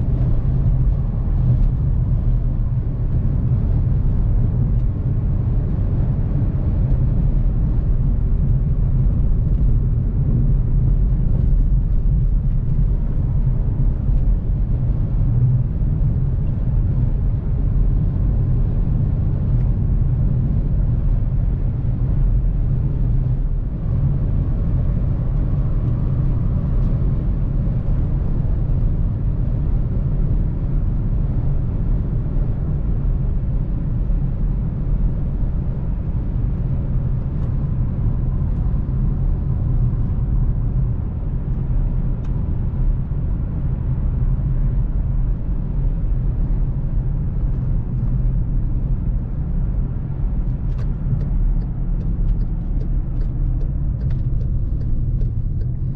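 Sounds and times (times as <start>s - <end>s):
car engine rumble: 0.0s - 55.9s.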